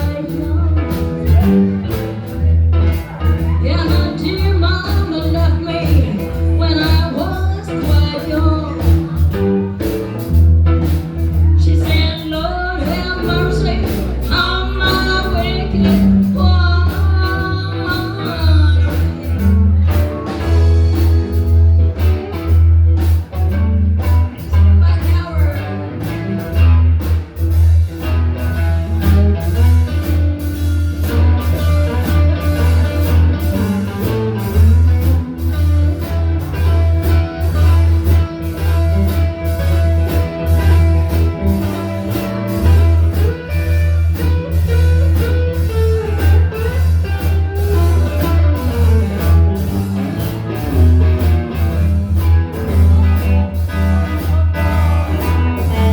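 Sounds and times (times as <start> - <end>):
bass line: 0.0 - 55.9
drums: 0.0 - 55.9.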